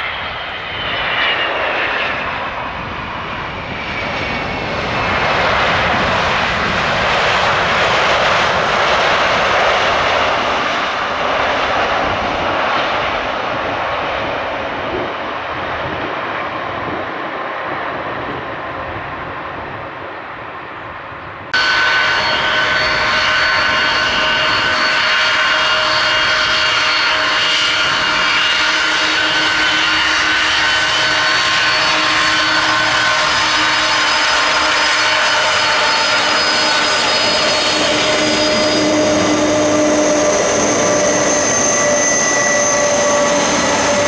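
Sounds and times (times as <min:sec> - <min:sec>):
high jet engine whine: 0:00.0 - 0:44.0
jet engines roaring: 0:00.0 - 0:44.0.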